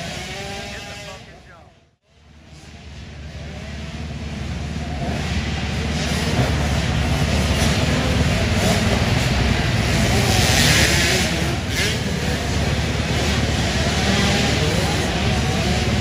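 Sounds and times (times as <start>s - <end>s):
motocross bike engines running: 0.0s - 16.0s.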